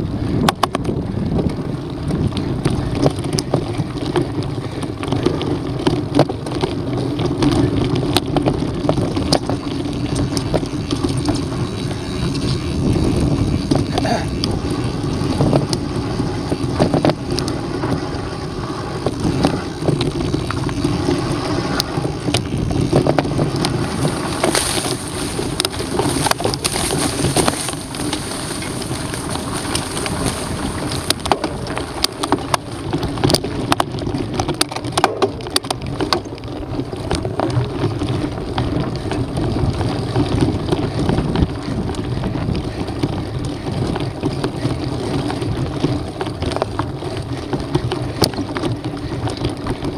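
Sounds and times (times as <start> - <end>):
bike rattling and knocking: 0.0 - 49.9
wind buffeting microphone: 0.0 - 49.9
tyres crunching over gravel: 0.7 - 49.9.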